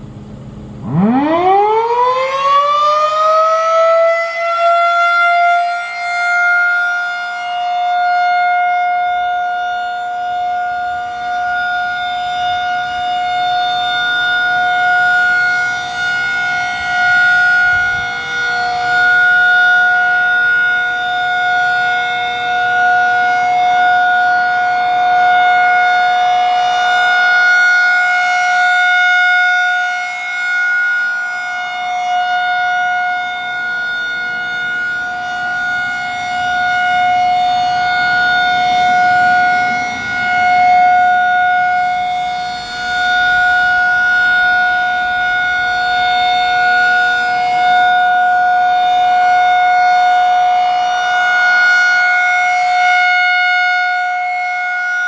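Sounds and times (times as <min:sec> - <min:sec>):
rotating warning siren steady tone: 0:00.0 - 0:55.0.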